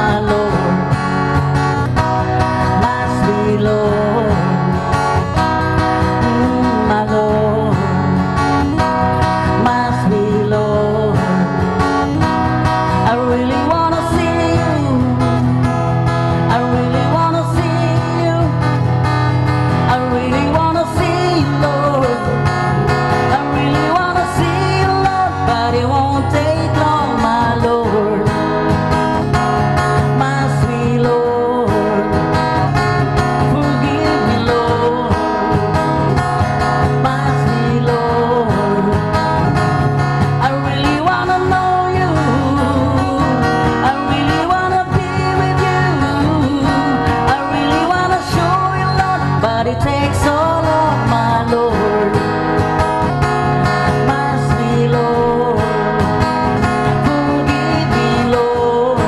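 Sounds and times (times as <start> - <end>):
acoustic guitar: 0.0 - 59.0
man singing into a microphone: 0.0 - 59.0.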